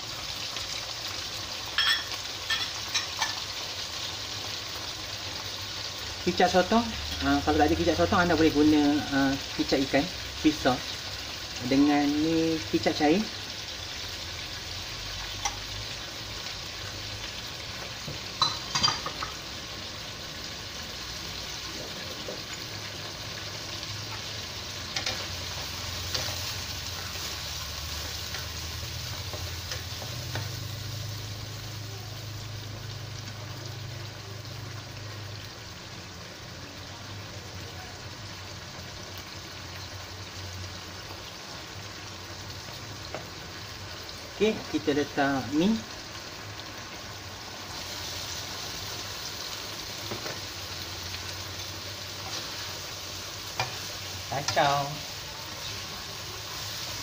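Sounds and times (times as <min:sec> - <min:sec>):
prawns sizzling in a wok: 0:00.0 - 0:57.0.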